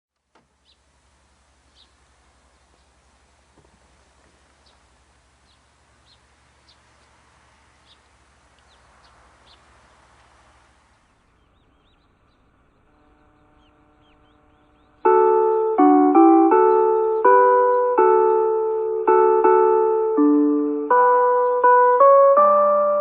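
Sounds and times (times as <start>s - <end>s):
background hiss: 0.1s - 23.0s
faint steady hum: 0.2s - 23.0s
small birds chirping: 0.2s - 23.0s.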